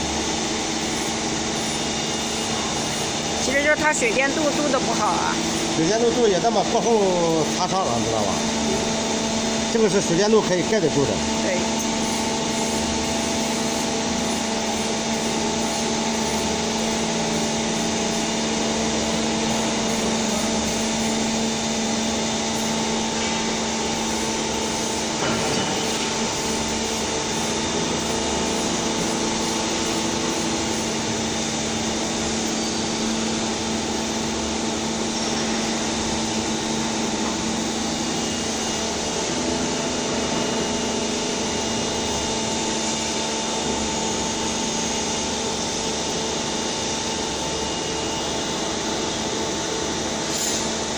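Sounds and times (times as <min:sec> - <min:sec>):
machinery humming with steady tones: 0:00.0 - 0:50.9.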